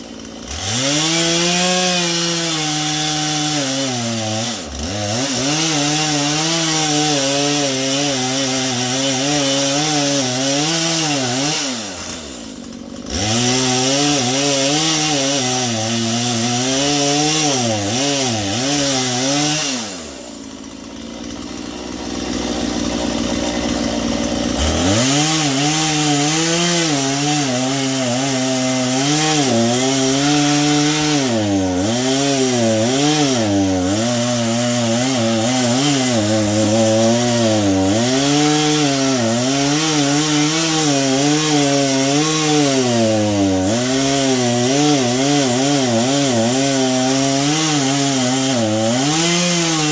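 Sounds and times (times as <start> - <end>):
chainsaw cutting through log: 0.0 - 49.9.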